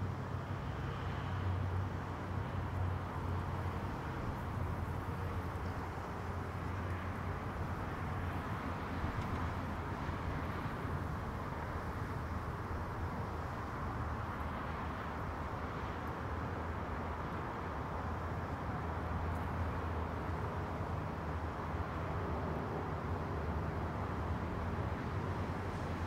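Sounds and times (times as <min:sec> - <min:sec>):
distant road traffic rumble: 0:00.0 - 0:26.0
wind: 0:00.0 - 0:26.0.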